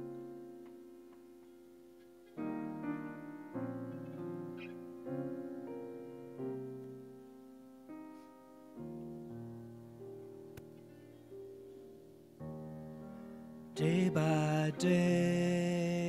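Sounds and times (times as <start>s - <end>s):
slow gentle piano chords: 0.0s - 16.0s.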